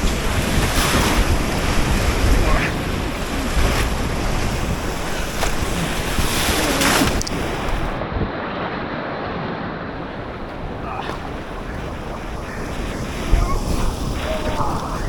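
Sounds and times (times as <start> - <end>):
river water rushing: 0.0 - 8.1, 9.9 - 15.0
wind buffeting microphone: 0.0 - 15.0.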